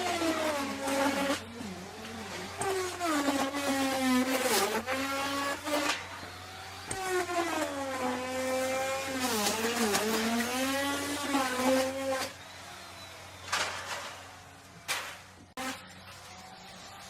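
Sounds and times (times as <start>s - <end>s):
router bit cutting wood: 0.0s - 17.0s
wood router motor whine: 0.0s - 17.0s.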